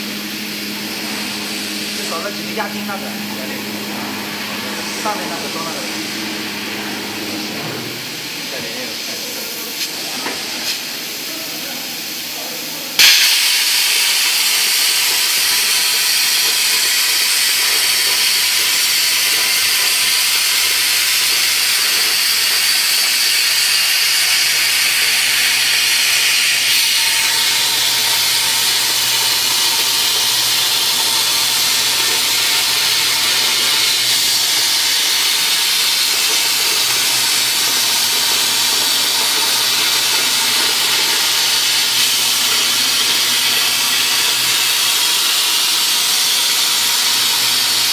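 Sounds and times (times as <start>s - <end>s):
plasma torch hissing: 0.0s - 47.9s.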